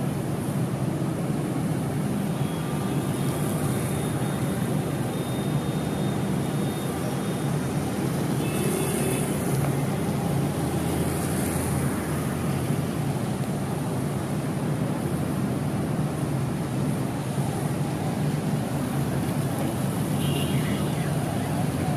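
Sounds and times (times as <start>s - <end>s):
traffic noise: 0.0s - 21.9s
tyres hissing on wet road: 0.0s - 21.9s.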